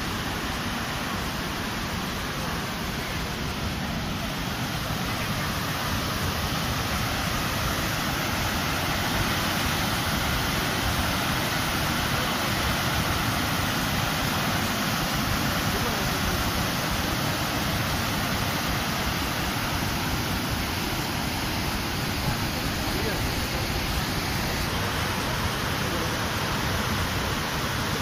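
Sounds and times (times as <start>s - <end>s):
waterfall rushing over rocks: 0.0s - 28.0s.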